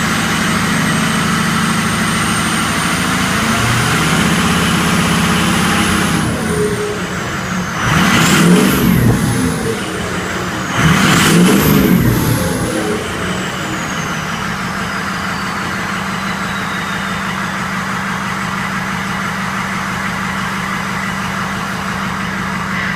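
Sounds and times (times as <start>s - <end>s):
diesel engine idling and revving: 0.0s - 22.9s
turbo whistling: 0.8s - 22.9s.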